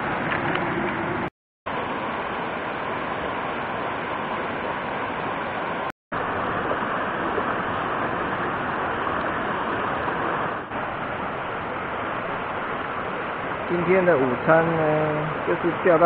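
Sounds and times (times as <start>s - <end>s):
stream rushing over boulders: 1.1s - 16.0s.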